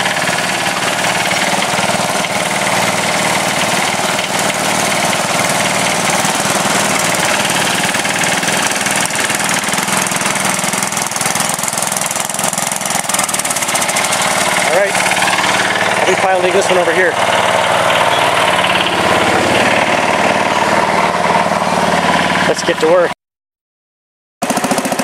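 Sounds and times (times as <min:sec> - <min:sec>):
garden tractor engine running: 0:00.0 - 0:23.2, 0:24.4 - 0:25.0.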